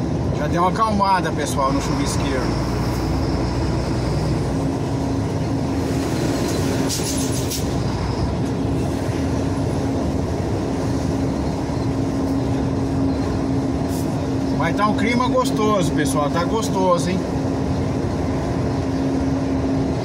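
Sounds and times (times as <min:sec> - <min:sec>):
engine and road noise in cabin: 0:00.0 - 0:20.0.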